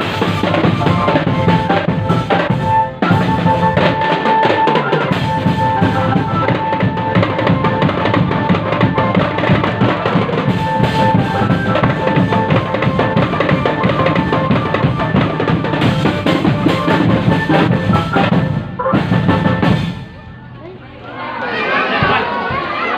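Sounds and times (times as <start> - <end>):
bass and snare drums beating: 0.0 - 20.2
high melody: 0.0 - 20.8.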